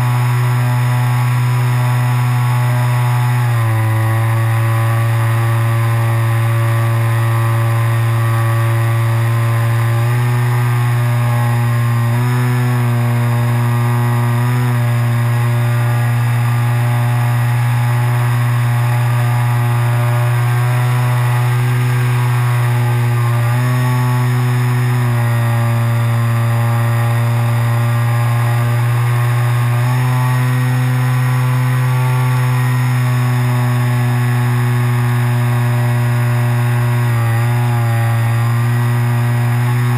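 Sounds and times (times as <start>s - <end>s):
model aircraft motor drone: 0.0s - 39.9s.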